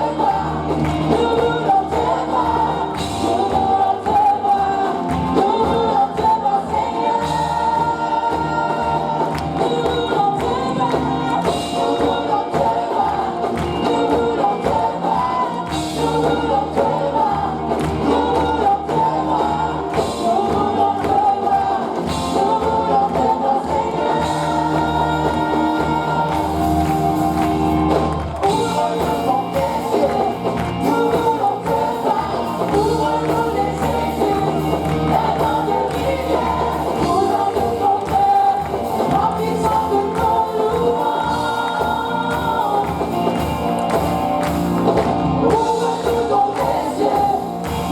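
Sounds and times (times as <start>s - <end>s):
bass guitar: 0.0s - 47.9s
congregation singing gospel: 0.0s - 47.9s
drums: 0.0s - 47.9s.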